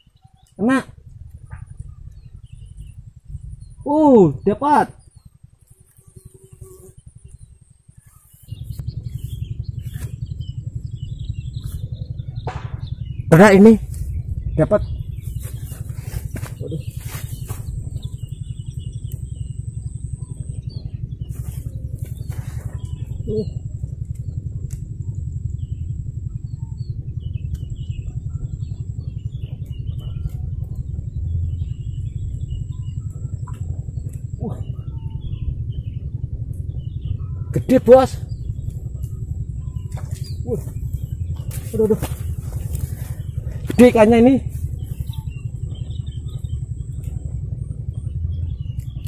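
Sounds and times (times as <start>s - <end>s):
birds chirping: 0.0s - 49.0s
low fluttering rumble: 0.0s - 49.0s
low rapid throbbing: 0.0s - 49.0s
thin high whine: 0.0s - 49.0s.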